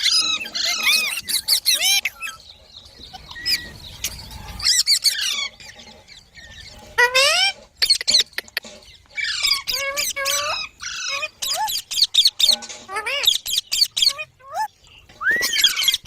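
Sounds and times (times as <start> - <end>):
baby parrots chirping: 0.0 - 16.0.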